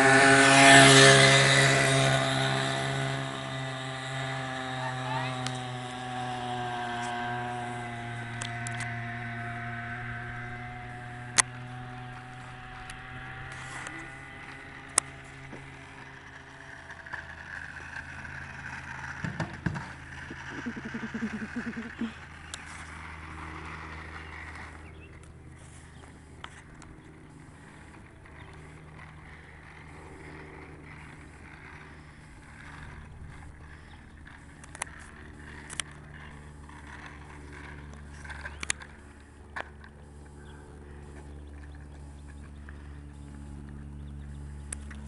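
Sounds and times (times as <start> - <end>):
wheels rolling over asphalt: 0.0 - 45.0.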